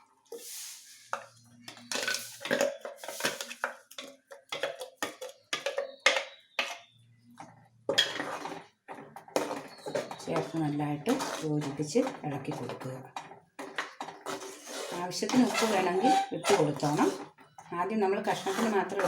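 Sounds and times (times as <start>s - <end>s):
spoon scraping steel pots: 0.3s - 19.0s.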